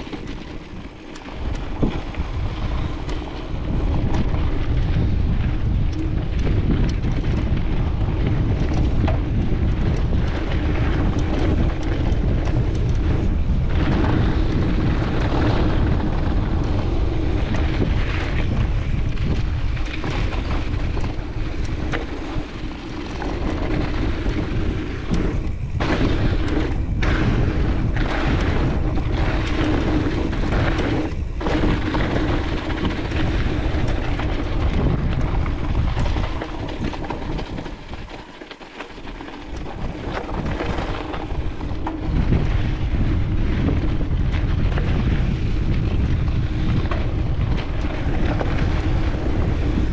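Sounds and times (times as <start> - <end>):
bike clicks and rattles: 0.0 - 49.9
bike tyre noise on dirt: 0.0 - 49.9
wind buffeting microphone: 0.0 - 49.9.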